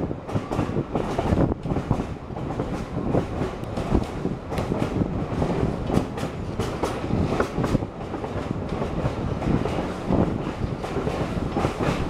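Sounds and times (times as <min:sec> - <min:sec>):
train rumbling along track: 0:00.0 - 0:12.0
wheels clacking over rails: 0:00.2 - 0:12.0.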